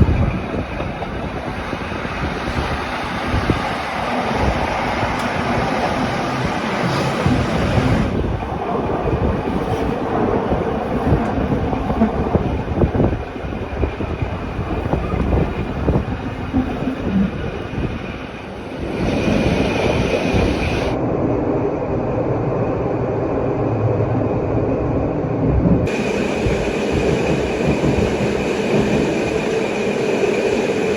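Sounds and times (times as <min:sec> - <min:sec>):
train rumbling on track: 0:00.0 - 0:30.9.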